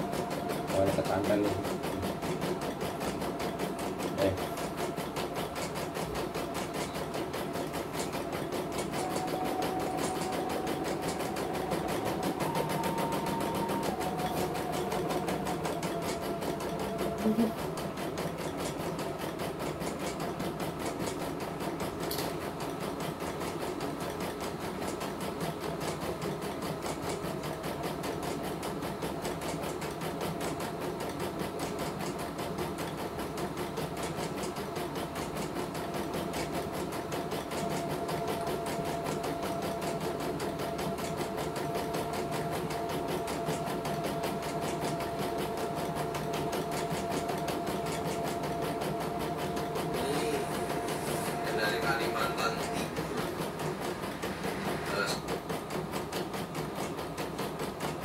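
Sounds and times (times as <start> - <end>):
embroidery machine stitching: 0.0 - 58.0.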